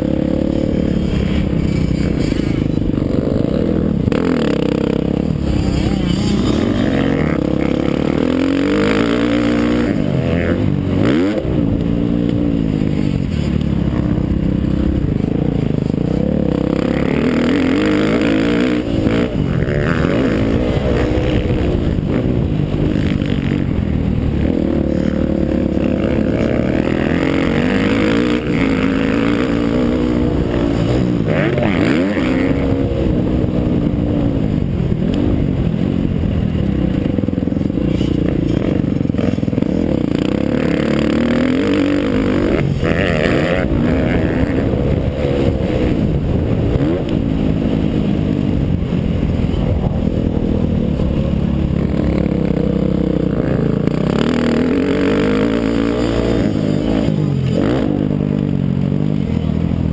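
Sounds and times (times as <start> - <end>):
dirt bike engine revving: 0.0 - 59.4.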